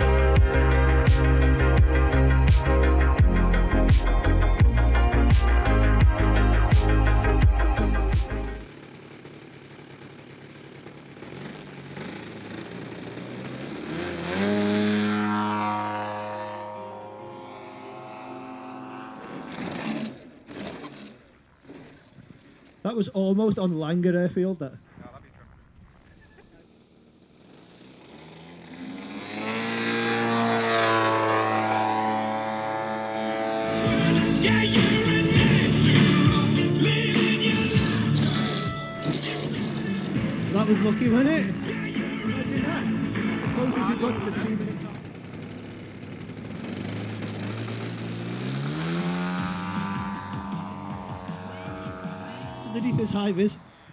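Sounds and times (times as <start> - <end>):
model aircraft engine running: 7.4 - 23.0, 25.9 - 53.9.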